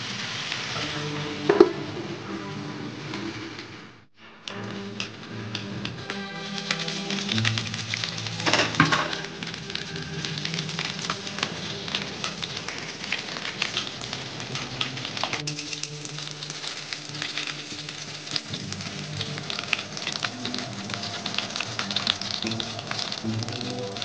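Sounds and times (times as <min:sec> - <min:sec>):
chicken frying in hot oil: 0:00.0 - 0:03.8, 0:04.8 - 0:24.0
background music: 0:00.8 - 0:24.0.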